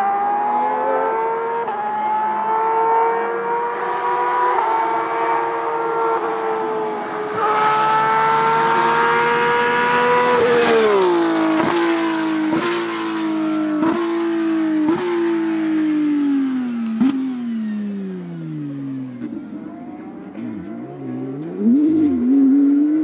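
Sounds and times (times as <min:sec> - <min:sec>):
rally car engine at full throttle: 0:00.0 - 0:23.0.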